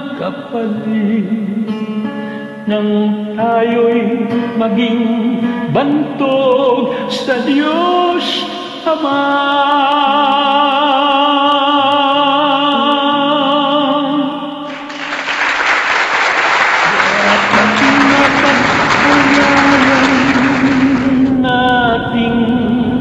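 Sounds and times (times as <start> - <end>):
karaoke backing music: 0.0 - 14.9, 16.8 - 23.0
man singing with vibrato: 0.0 - 14.9, 16.8 - 23.0.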